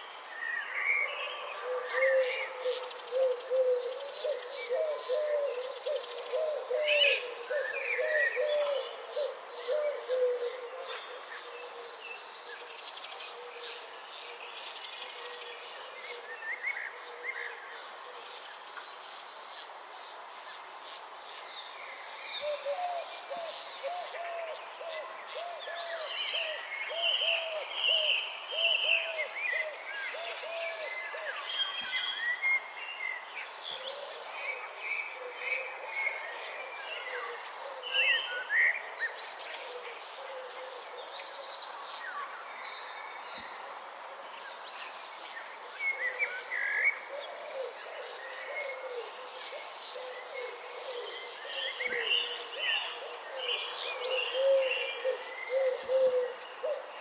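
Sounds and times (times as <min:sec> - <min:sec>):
high insect trill: 0:00.0 - 0:57.0.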